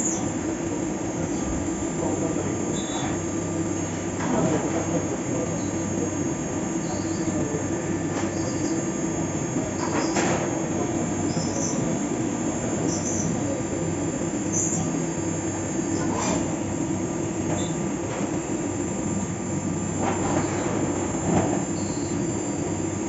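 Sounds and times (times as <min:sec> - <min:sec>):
milling machine hum: 0:00.0 - 0:23.0.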